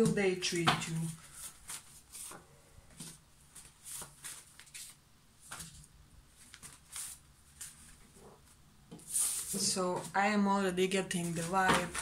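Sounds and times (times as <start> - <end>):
paper card rustling on desk: 0.5 - 10.1, 11.2 - 12.0.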